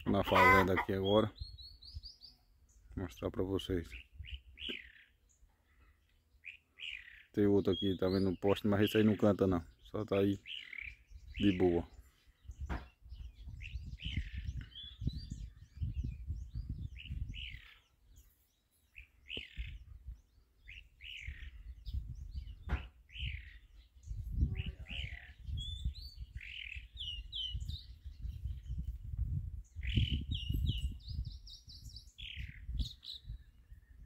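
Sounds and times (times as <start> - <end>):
mockingbird singing: 0.0 - 34.0.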